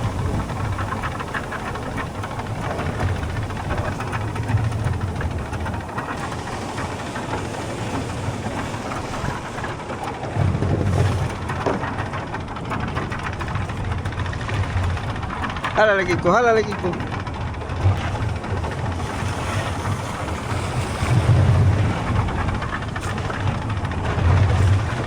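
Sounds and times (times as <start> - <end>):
boat engine running: 0.0 - 25.0
water noise: 0.0 - 25.0
wind: 0.0 - 25.0.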